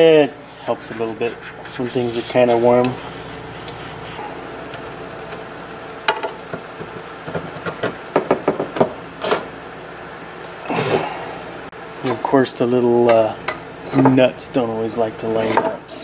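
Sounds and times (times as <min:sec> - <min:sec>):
hot air gun fan running: 0:00.0 - 0:16.0.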